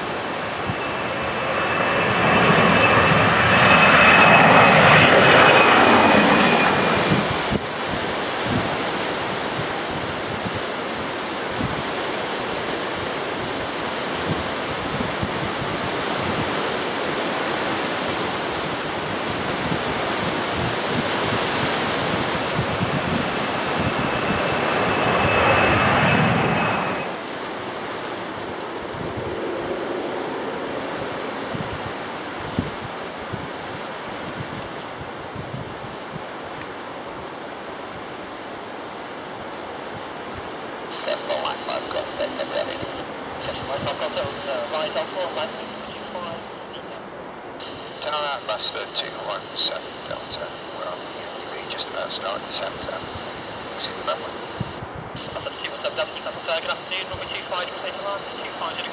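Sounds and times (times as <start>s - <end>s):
wind on microphone: 0.0s - 48.0s, 52.6s - 55.7s
jet engines roaring and whining: 0.0s - 58.9s.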